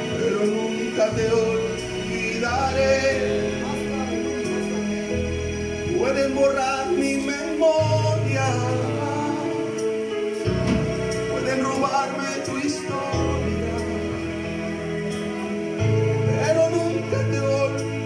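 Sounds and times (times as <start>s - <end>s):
man singing into microphone: 0.0s - 5.2s, 5.8s - 10.5s, 11.2s - 14.8s, 16.2s - 18.0s
backing music with bass notes: 0.0s - 18.0s.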